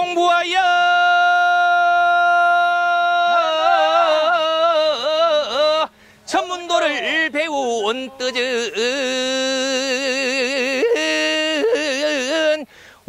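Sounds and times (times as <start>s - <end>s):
man singing: 0.0s - 12.7s.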